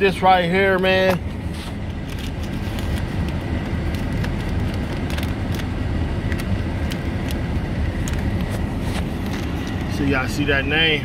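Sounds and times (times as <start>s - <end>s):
low rumble inside a car: 0.0s - 11.0s.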